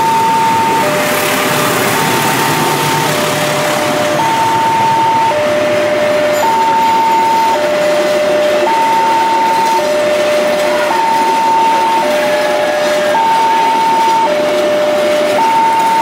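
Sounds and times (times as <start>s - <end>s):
level-crossing two-tone alarm: 0.0s - 16.0s
train coaches rumbling on rails: 0.0s - 16.0s.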